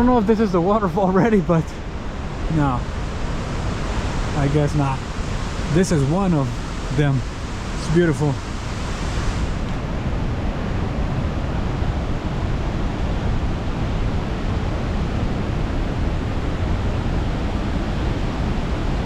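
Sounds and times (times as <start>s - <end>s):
white water rushing: 0.0s - 19.0s.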